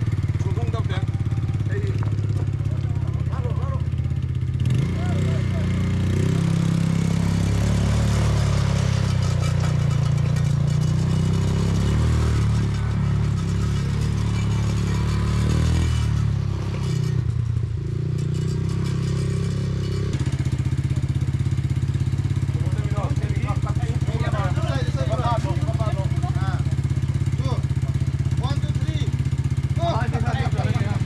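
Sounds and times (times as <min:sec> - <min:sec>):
quad bike engine idling: 0:00.0 - 0:31.0
quad bike engine running: 0:00.0 - 0:31.0.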